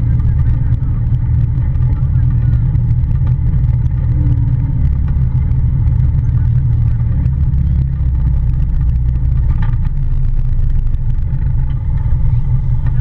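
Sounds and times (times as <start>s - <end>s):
utility vehicle engine rumbling: 0.0s - 13.0s.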